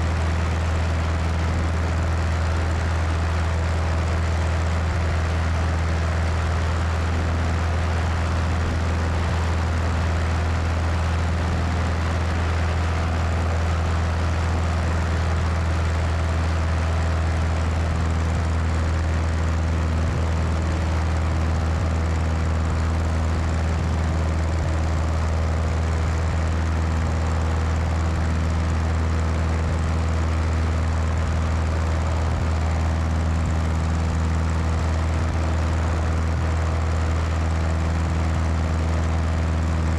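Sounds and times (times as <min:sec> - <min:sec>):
propeller engine droning: 0:00.0 - 0:39.9.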